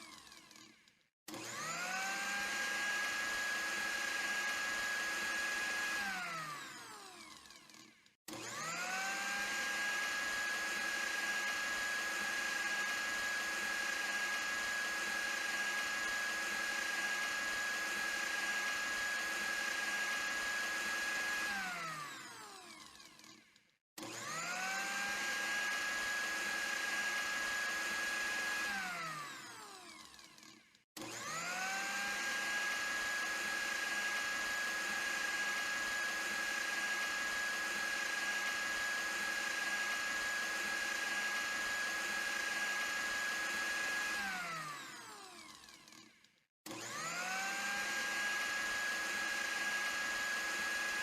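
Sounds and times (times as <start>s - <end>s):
electric blender motor whining: 0.0s - 51.0s.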